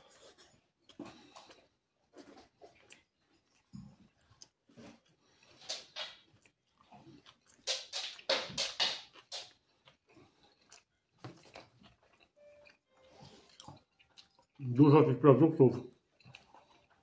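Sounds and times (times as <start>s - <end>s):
man chewing food: 0.0s - 14.9s, 15.9s - 17.0s.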